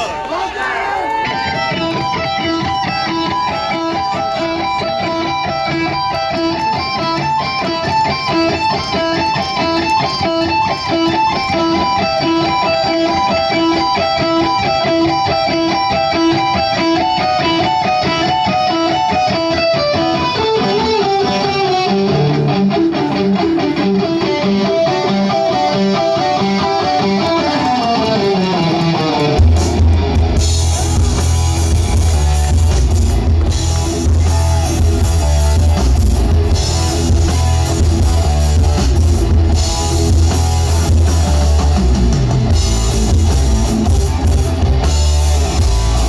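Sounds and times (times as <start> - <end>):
electric guitars playing riff: 0.9 - 46.0
bass guitar: 1.2 - 46.0.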